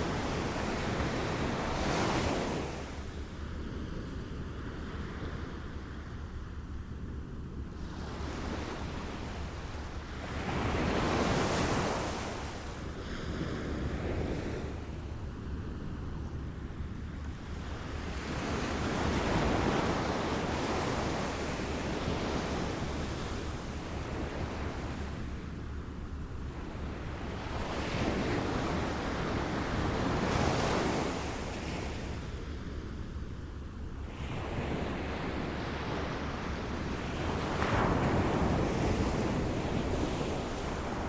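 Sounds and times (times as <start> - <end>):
low rumble of wind or surf: 0.0 - 41.0.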